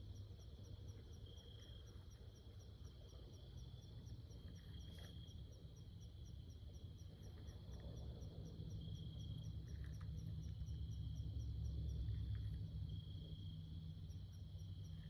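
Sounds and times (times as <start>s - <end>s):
insect drone: 0.0s - 15.0s
insects chirping: 0.1s - 15.0s.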